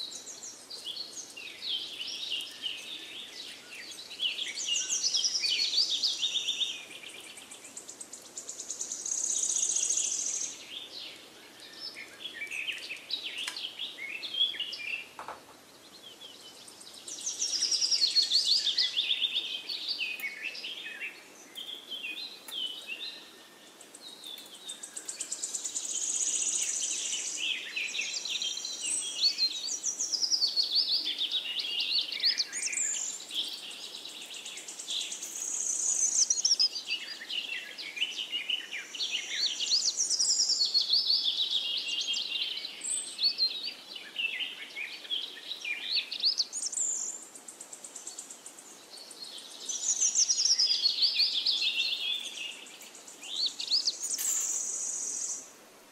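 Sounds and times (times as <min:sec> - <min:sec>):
songbirds chirping and singing: 0:00.0 - 0:55.6.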